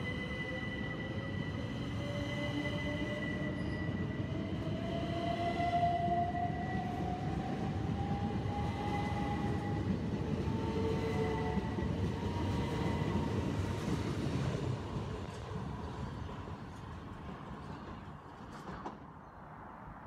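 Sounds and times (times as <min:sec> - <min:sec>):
train low rumble: 0:00.0 - 0:19.1.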